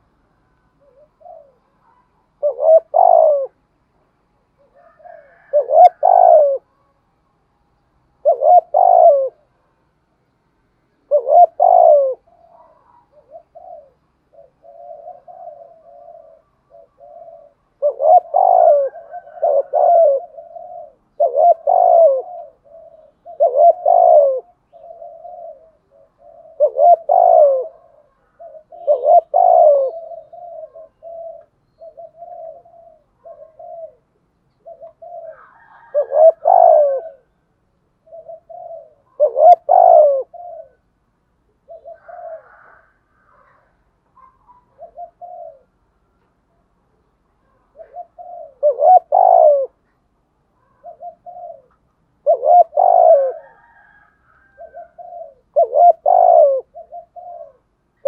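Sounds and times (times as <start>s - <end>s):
dove cooing: 0.0s - 7.1s, 8.0s - 9.9s, 10.8s - 58.0s.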